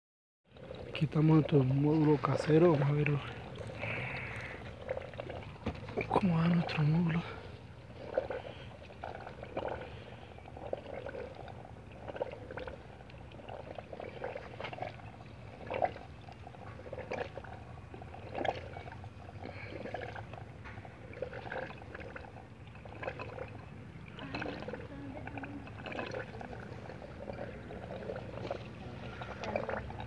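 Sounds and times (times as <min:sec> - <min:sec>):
water trickling and gurgling in pipes: 0:00.4 - 0:30.0
small water splashes and drips: 0:00.5 - 0:30.0.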